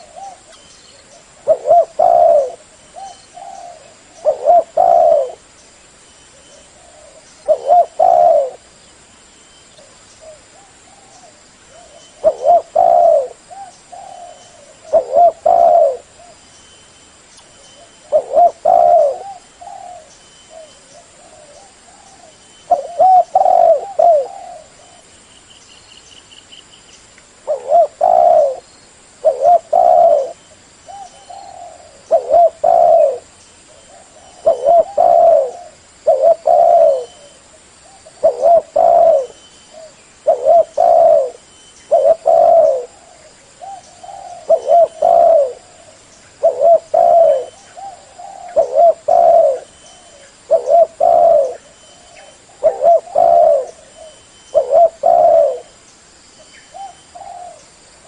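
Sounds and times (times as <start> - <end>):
dove cooing: 0.0 - 5.5, 6.3 - 8.7, 9.8 - 16.4, 17.8 - 25.1, 27.4 - 55.8, 56.7 - 57.8.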